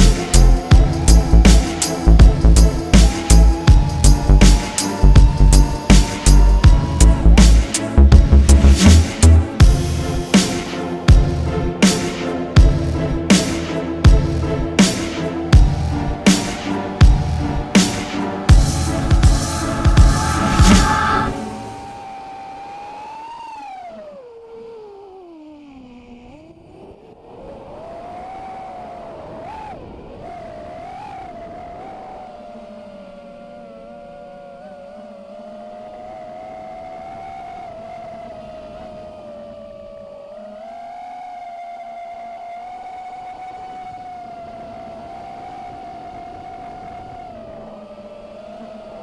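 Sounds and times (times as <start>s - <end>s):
quadcopter motors whining: 0.0s - 11.0s, 14.4s - 49.0s.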